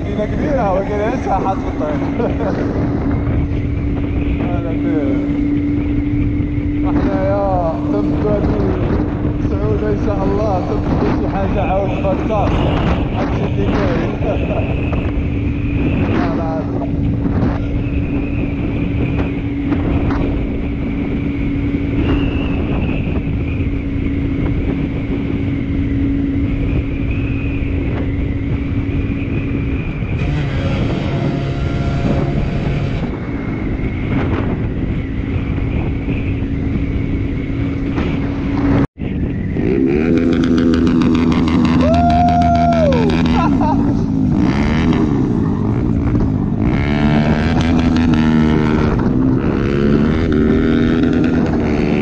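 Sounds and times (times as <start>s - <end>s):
motorcycle engine revving: 0.0s - 52.0s
wind rushing: 0.0s - 52.0s.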